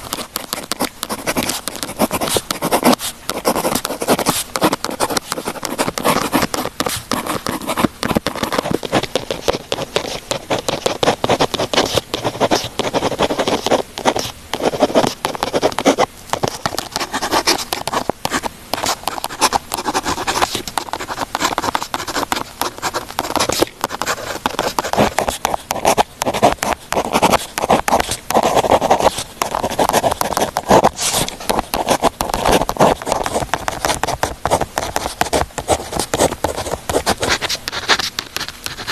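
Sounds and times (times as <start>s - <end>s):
pen scratching on paper: 0.0s - 38.9s.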